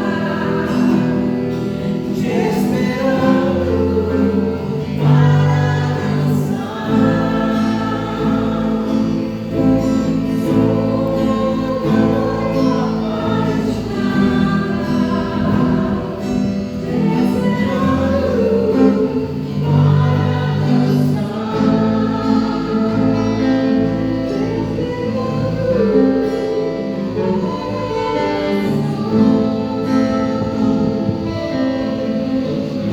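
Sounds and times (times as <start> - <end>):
group singing worship song: 0.0 - 32.9
guitar: 0.0 - 32.9.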